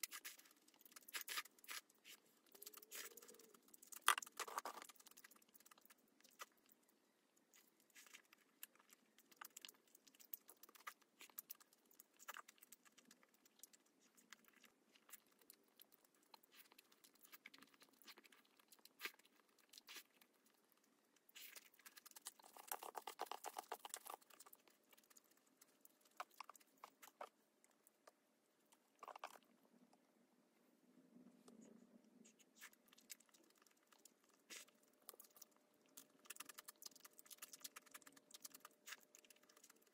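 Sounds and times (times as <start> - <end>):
crunching and chewing food: 0.0 - 30.2, 30.9 - 39.9.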